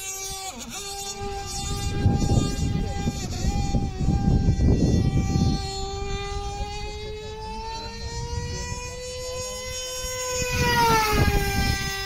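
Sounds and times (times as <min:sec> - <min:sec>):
low wind rumble: 0:00.0 - 0:12.0
model plane motor whining: 0:00.0 - 0:12.0.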